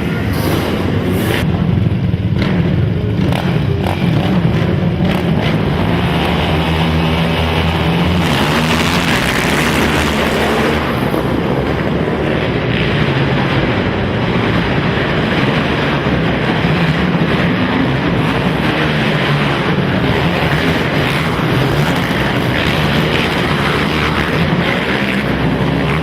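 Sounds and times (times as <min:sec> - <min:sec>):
atv engines revving: 0:00.0 - 0:26.0.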